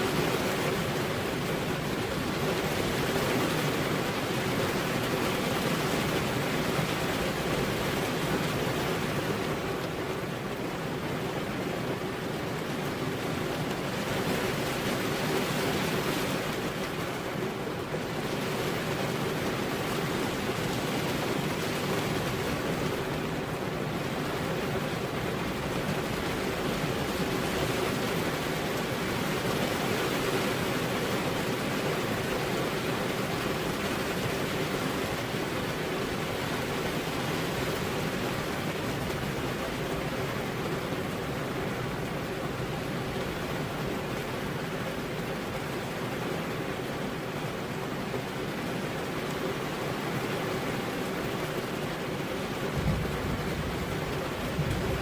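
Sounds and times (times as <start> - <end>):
rain falling steadily: 0.0 - 55.0.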